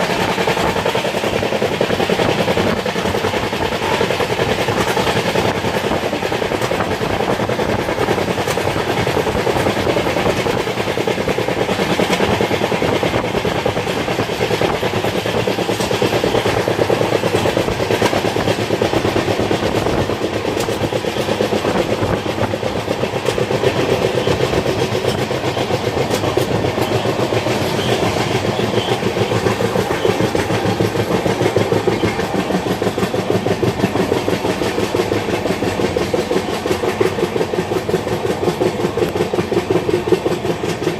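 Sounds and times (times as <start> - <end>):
train wheels clattering over rails: 0.0 - 40.9.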